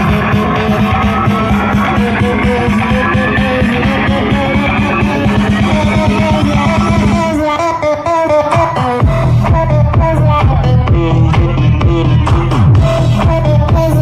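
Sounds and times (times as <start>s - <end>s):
loud guitar music with fast beat: 0.0s - 14.0s.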